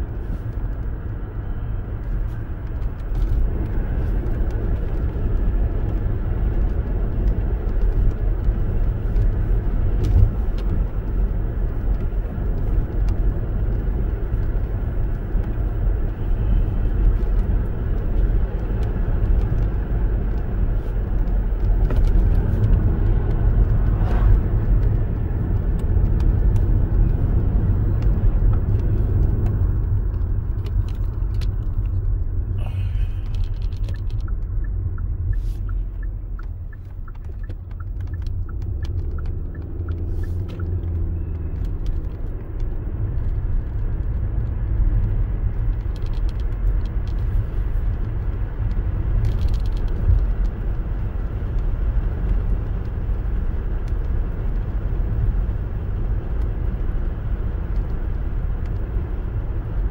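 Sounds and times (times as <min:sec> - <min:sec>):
car cabin road and engine noise: 0:00.0 - 0:59.9
turn signal ticking: 0:02.5 - 0:59.9.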